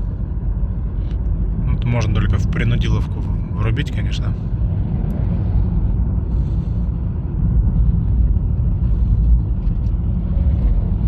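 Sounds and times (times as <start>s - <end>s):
car road rumble from inside: 0.0s - 11.0s.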